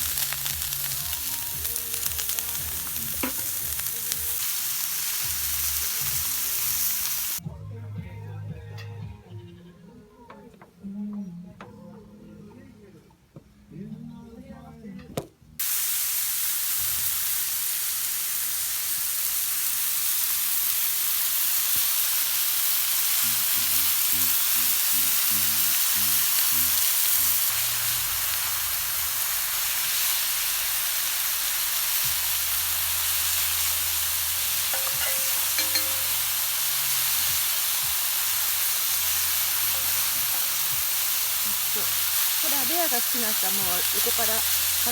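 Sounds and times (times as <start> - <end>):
meat sizzling on a griddle: 0.0 - 7.4, 15.6 - 44.9.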